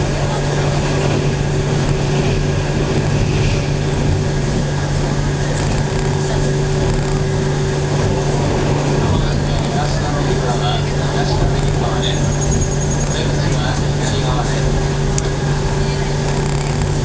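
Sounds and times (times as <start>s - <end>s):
constant low hum: 0.0s - 17.0s
train wheels rumbling on rails: 0.0s - 17.0s.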